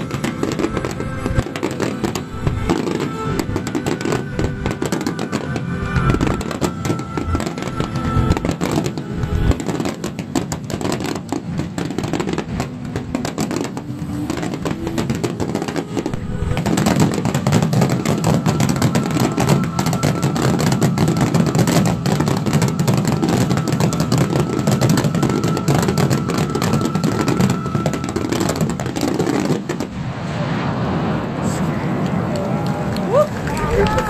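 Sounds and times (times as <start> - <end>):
fireworks bursting: 0.0 - 34.0
fireworks crackling: 0.0 - 34.0.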